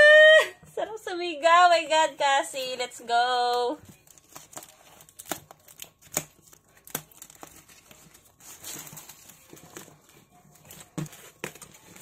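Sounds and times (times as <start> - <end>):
plastic rustling and crinkling: 1.7 - 12.0.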